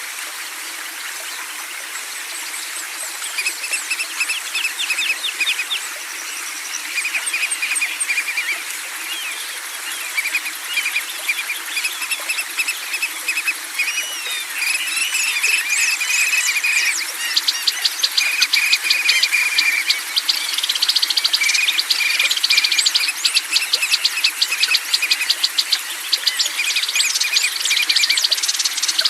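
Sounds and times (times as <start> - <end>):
flowing water rushing: 0.0 - 29.0
songbirds chirping and trilling: 2.6 - 29.0.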